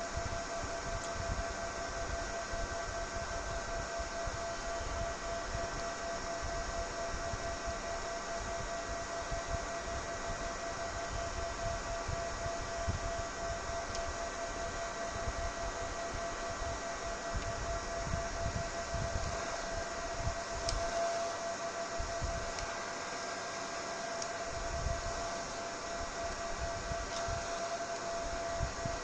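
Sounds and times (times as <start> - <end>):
ventilation fan running: 0.0 - 29.0.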